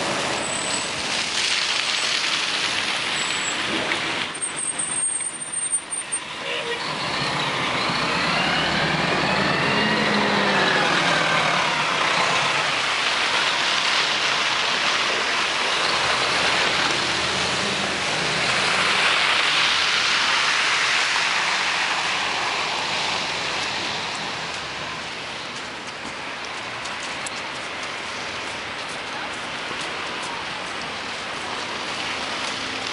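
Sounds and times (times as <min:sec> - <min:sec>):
bus engine and road noise: 0:00.0 - 0:32.9
bus whine: 0:03.0 - 0:32.9.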